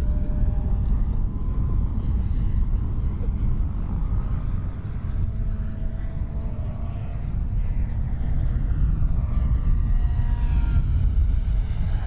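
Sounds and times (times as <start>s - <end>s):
model plane motor whine: 0.0s - 12.0s
wind buffeting microphone: 0.0s - 12.0s.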